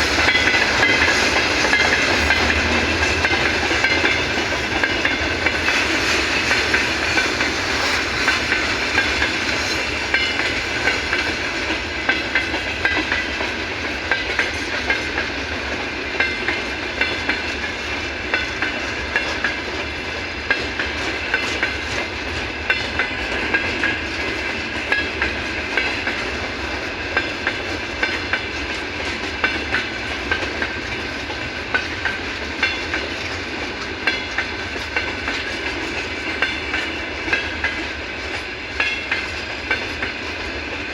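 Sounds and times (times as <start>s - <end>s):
high ringing from wheels and rails: 0.0s - 40.9s
train rumble: 0.0s - 40.9s
train wheels clacking on rail joints: 0.0s - 40.9s.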